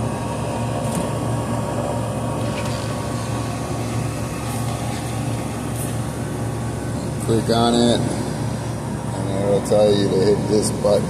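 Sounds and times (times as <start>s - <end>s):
hvac unit humming: 0.0s - 11.0s.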